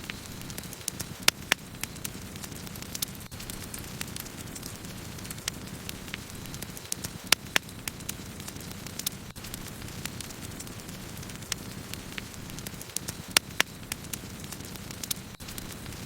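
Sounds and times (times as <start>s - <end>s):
burning wood crackling and popping: 0.0s - 16.0s
low roar of flames: 0.0s - 16.0s.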